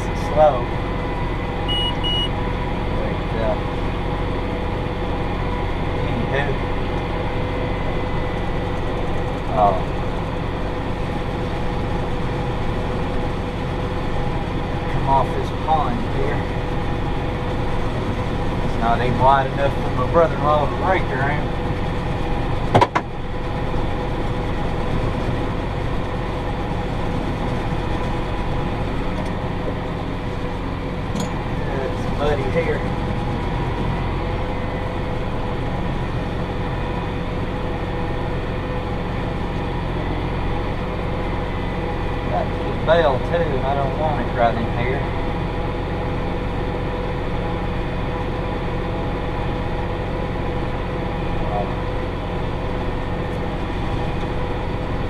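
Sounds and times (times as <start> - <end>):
steady machine whine: 0.0 - 55.0
tractor engine droning: 0.0 - 55.0.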